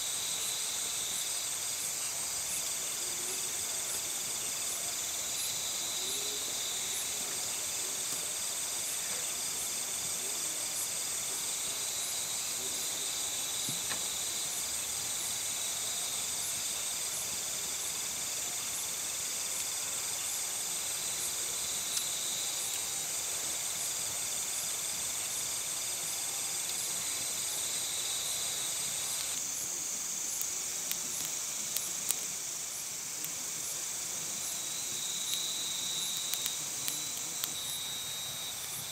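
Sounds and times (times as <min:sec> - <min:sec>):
crickets trilling: 0:00.0 - 0:38.9
campfire crackling: 0:00.2 - 0:38.9.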